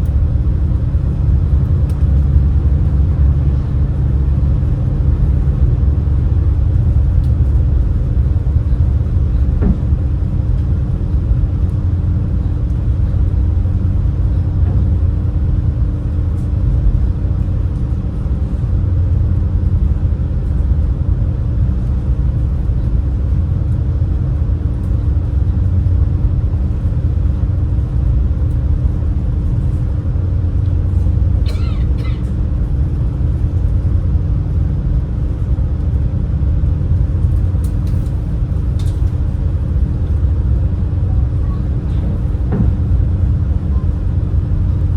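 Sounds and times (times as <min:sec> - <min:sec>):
boat engines rumbling: 0:00.0 - 0:44.9
constant hum: 0:00.0 - 0:44.9.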